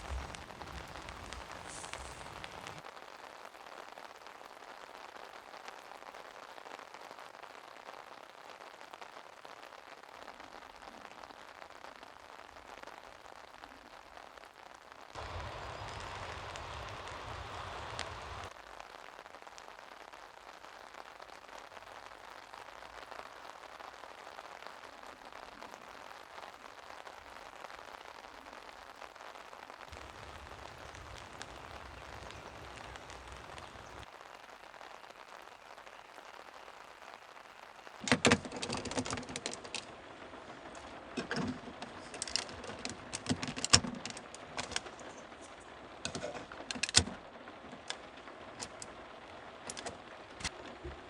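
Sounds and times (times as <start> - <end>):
rain pattering: 0.0 - 51.0.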